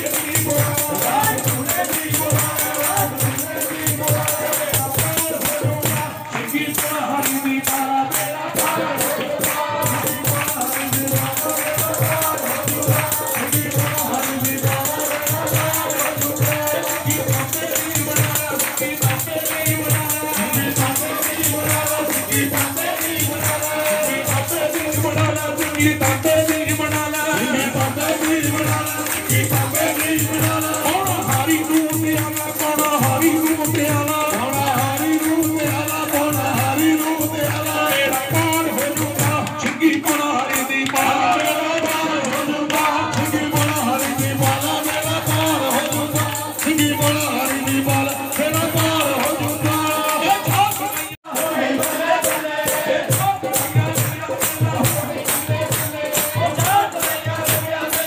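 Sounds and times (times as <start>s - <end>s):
hand-clapping: 0.0s - 58.0s
person singing: 0.0s - 58.0s.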